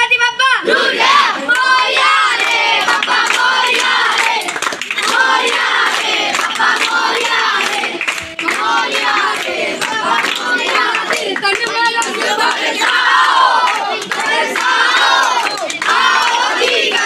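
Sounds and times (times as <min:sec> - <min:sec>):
boys chanting together: 0:00.0 - 0:17.0
steady clapping: 0:01.1 - 0:17.0.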